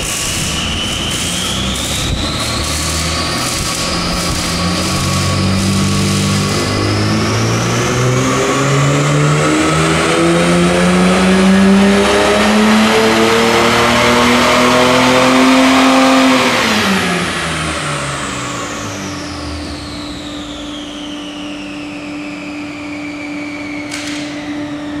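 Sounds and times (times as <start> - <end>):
car engine revving at full throttle: 0.0 - 20.2
dyno rollers whining: 0.0 - 25.0.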